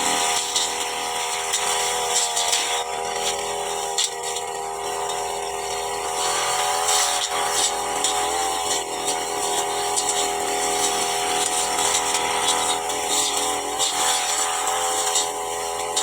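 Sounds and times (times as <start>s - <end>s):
brush cutter engine whining: 0.0s - 16.0s.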